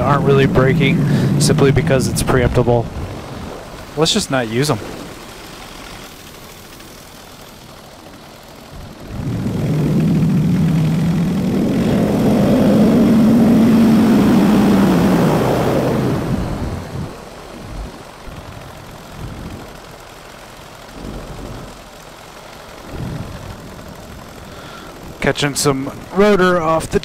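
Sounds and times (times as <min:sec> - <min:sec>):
engine idling hiss: 0:00.0 - 0:27.0
paramotor engine and propeller: 0:00.0 - 0:27.0.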